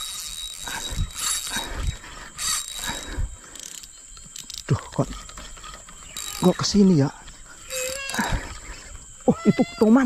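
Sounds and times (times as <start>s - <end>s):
fishing reel drag ratcheting: 0.0s - 9.2s.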